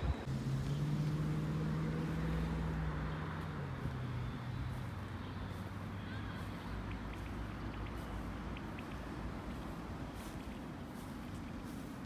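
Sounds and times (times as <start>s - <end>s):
outdoor background noise: 0.0s - 12.0s
vehicle engine humming: 0.0s - 12.0s.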